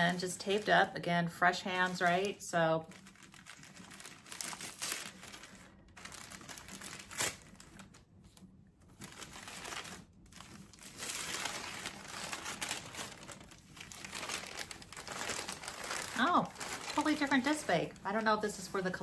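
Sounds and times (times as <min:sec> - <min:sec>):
tissue paper crinkling: 0:00.0 - 0:19.0.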